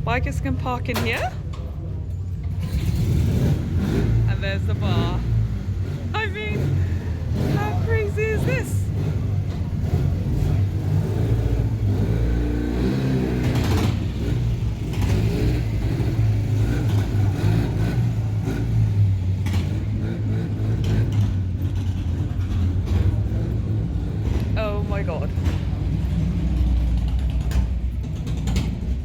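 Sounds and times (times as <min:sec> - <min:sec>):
motorcycle engine revving: 0:02.4 - 0:29.0.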